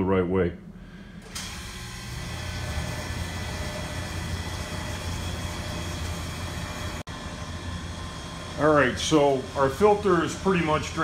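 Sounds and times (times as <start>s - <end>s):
refrigeration compressor humming: 0.5s - 11.0s.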